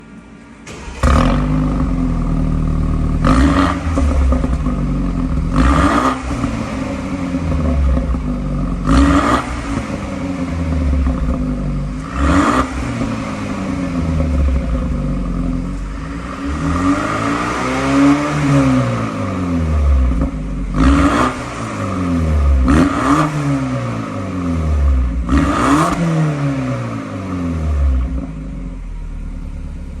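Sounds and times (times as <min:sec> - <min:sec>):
car engine revving: 0:00.7 - 0:28.6.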